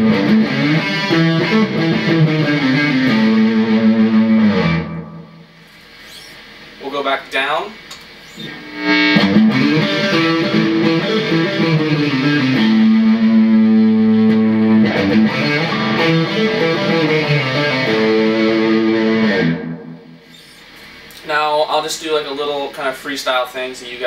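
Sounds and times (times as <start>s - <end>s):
distorted electric guitar: 0.0s - 6.6s, 8.2s - 21.2s.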